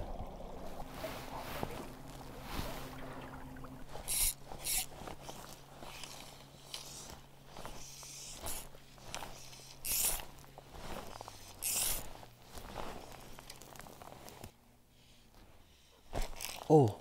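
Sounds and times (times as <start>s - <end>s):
faint low hum: 0.0s - 16.1s
fishing line zipping through guides: 0.9s - 14.5s, 16.2s - 16.9s.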